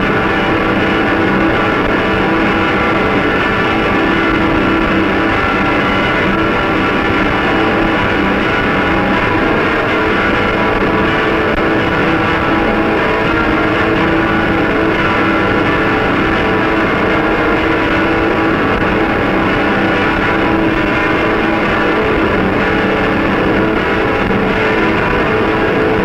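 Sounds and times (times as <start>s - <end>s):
muffled noise music drone: 0.0s - 26.0s.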